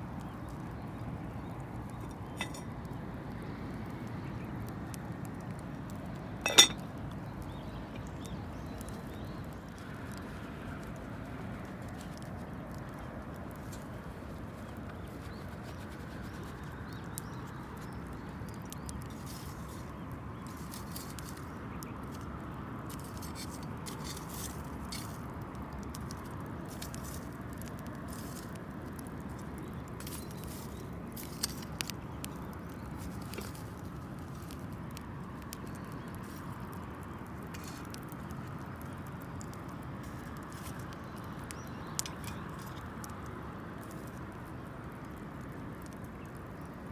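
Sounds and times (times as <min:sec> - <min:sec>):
fire pops: 0:00.0 - 0:46.8
campfire crackling: 0:00.0 - 0:46.9
low rushing of flames: 0:00.0 - 0:46.9.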